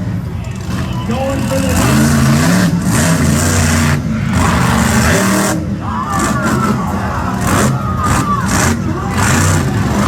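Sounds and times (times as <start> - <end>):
truck engine revving hard: 0.6 - 10.0.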